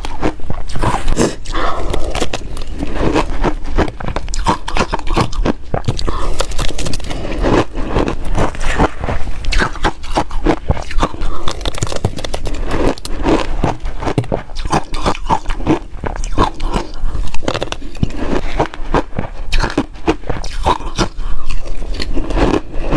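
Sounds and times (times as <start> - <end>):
person chewing ice: 0.0 - 22.9.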